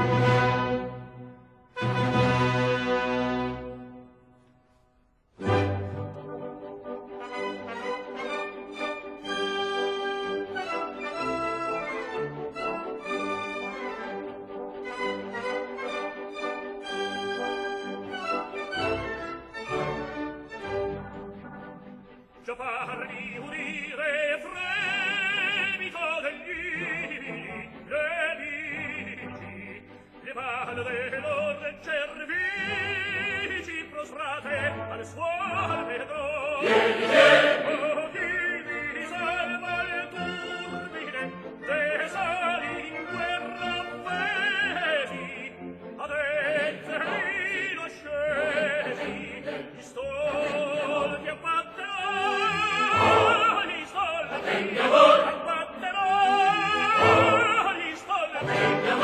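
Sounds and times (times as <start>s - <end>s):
operatic tenor singing: 0.0s - 4.1s, 5.4s - 59.0s
orchestra playing: 0.0s - 59.0s.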